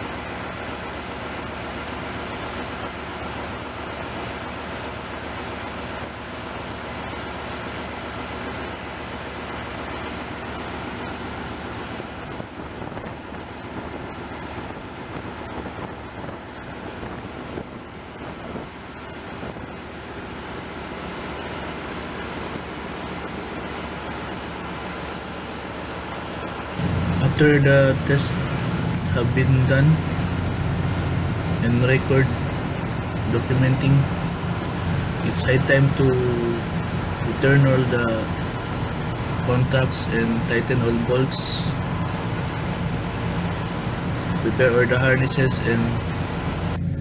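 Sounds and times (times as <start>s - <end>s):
diesel generator running: 0.0s - 47.0s.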